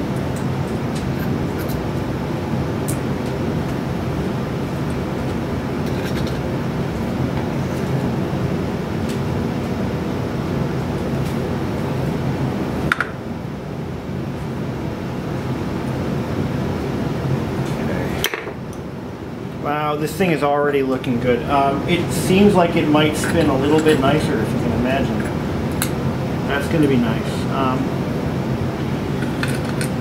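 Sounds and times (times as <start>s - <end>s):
droning machine hum: 0.0s - 30.0s.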